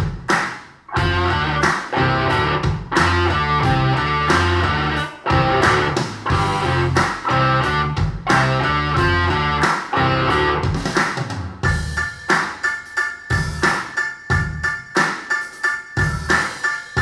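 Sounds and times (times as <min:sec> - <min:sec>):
rock music through speakers: 0:00.0 - 0:17.0.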